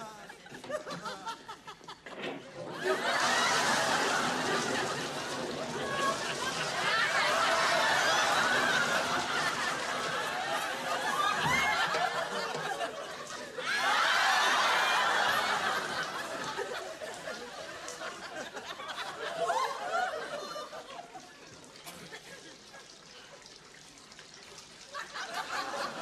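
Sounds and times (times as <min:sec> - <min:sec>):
audience laughter: 0:00.2 - 0:23.0, 0:24.9 - 0:26.0.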